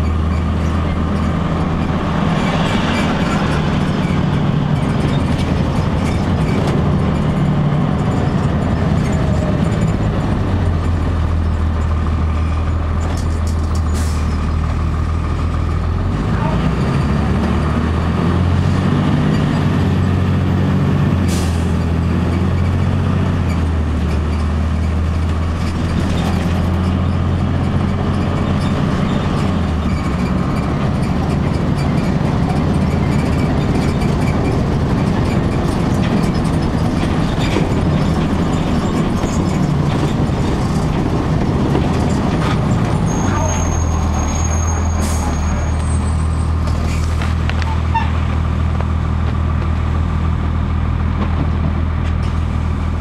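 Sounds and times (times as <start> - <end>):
bus diesel engine drone: 0.0 - 53.0
road noise: 0.0 - 53.0.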